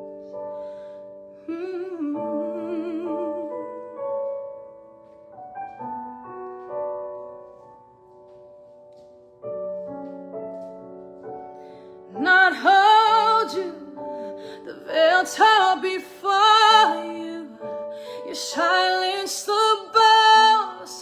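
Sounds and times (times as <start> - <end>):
piano playing slow chords: 0.0 - 20.8.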